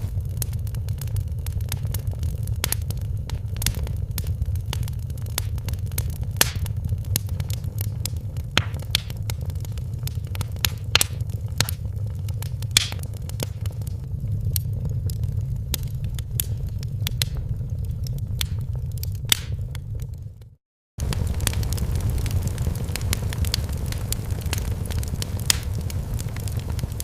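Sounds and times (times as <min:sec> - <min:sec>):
fire popping: 0:00.0 - 0:27.0
low rumble: 0:00.0 - 0:27.0
wood fire crackling: 0:00.0 - 0:27.0.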